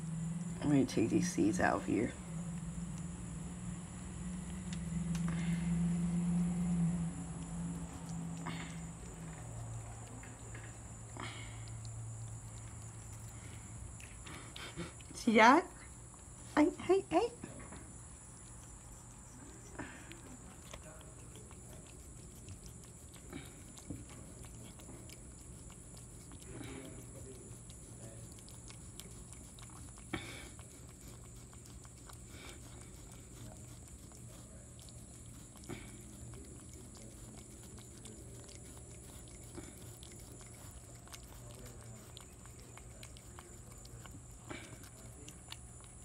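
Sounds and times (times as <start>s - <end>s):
cat chewing and licking: 0.0s - 46.0s
low steady hum: 0.0s - 46.0s.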